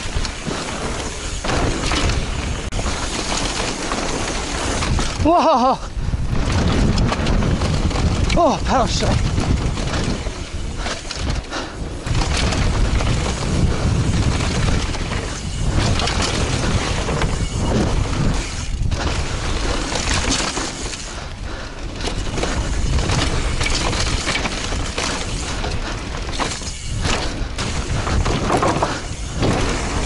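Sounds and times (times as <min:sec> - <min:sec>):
bike rattling and knocking: 0:00.0 - 0:30.0
wind buffeting microphone: 0:03.8 - 0:20.4, 0:21.0 - 0:30.0.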